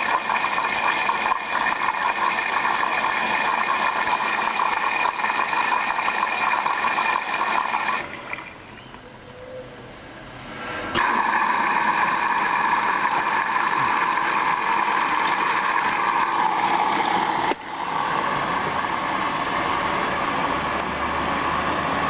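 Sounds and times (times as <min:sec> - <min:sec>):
water rushing in hissing: 0:00.0 - 0:08.7, 0:11.0 - 0:22.0.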